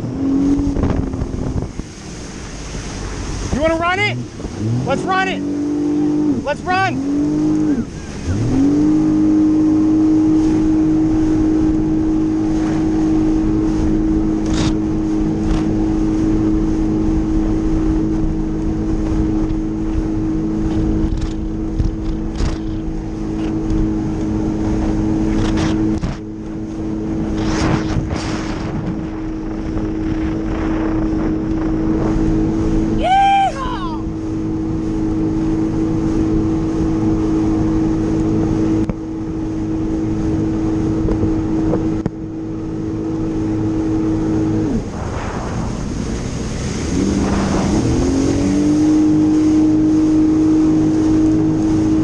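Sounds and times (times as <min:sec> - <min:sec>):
jet ski engine running: 0:00.0 - 0:52.0.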